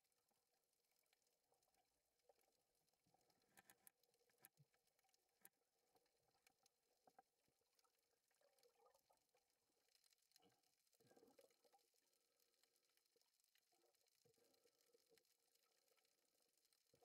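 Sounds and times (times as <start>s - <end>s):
faint clicks and crackle: 0.0s - 17.0s.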